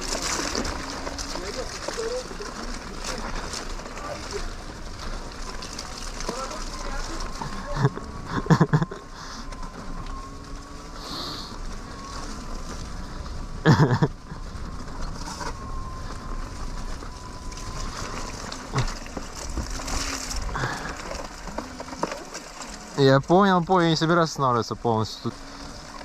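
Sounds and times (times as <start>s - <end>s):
faint high motor whine: 0.0s - 26.0s
tyre rumble and wind noise: 0.0s - 26.0s.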